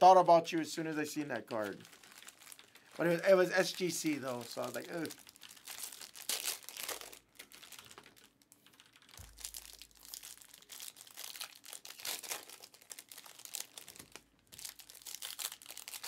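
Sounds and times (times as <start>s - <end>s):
foil card packs crinkling: 1.5s - 16.0s.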